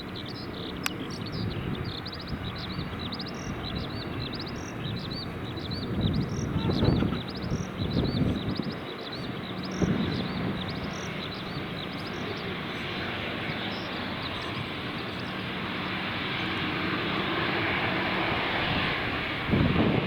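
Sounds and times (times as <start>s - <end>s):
small birds chirping: 0.0s - 19.3s
airliner engine noise: 0.0s - 20.0s
wind buffeting microphone: 0.0s - 20.0s.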